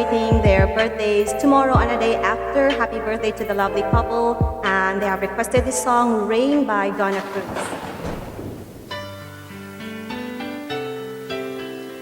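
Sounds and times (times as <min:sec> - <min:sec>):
slow piano ballad: 0:00.0 - 0:12.0.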